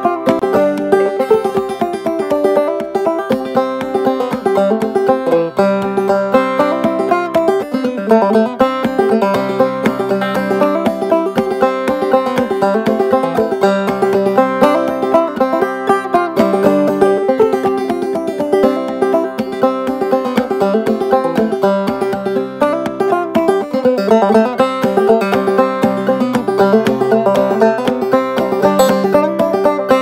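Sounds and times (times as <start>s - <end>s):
banjo plucked melody: 0.0s - 30.0s.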